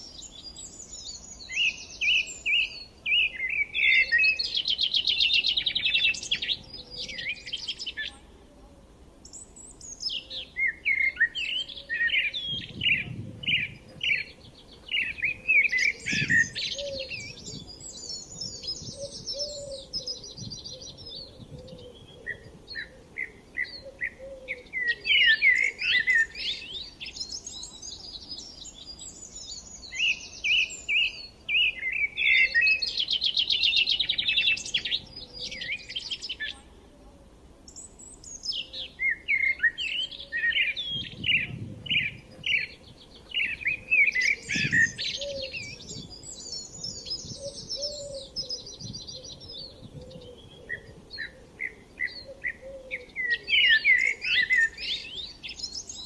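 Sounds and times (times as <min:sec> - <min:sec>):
songbirds singing and chirping: 0:00.0 - 0:56.0.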